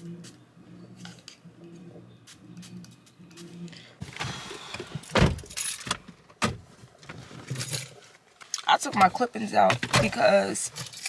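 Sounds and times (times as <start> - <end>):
rustling and handling noise: 0.2 - 11.0.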